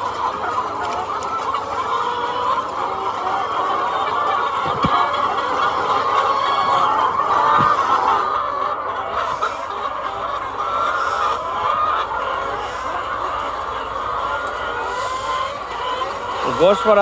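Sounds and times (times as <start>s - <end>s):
hens clucking and calling: 0.0s - 17.0s.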